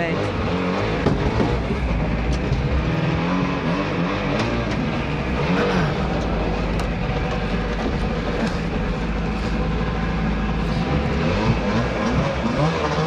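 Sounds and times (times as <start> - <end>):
small boat motor revving: 0.0 - 13.0.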